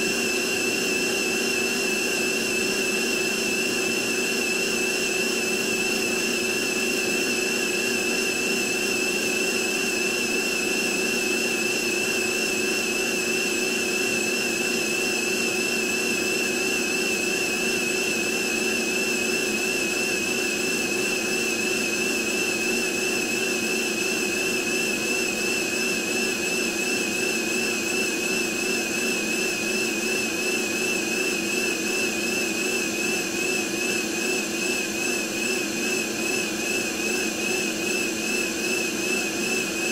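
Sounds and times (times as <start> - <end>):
handheld vacuum cleaner whining: 0.0 - 39.9.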